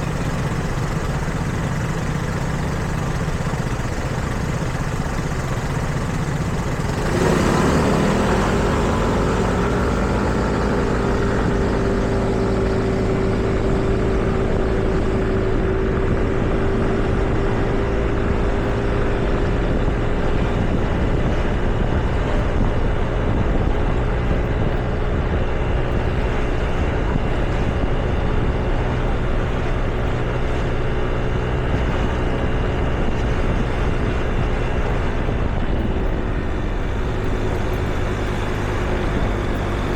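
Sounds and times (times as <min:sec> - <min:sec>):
street traffic: 0:00.0 - 0:39.9.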